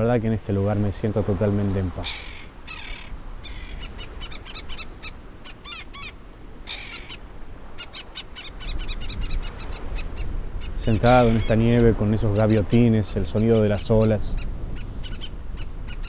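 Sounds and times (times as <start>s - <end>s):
sea waves washing: 0.0s - 16.0s
terns calling: 0.0s - 16.0s.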